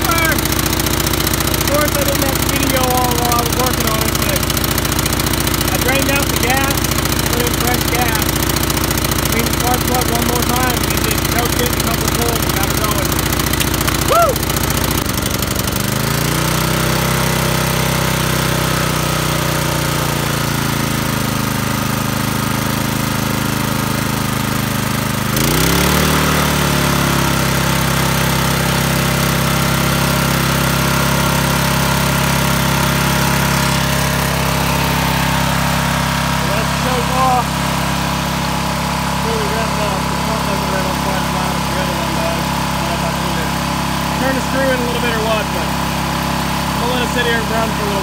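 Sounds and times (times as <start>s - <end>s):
small gas engine running: 0.0s - 48.0s.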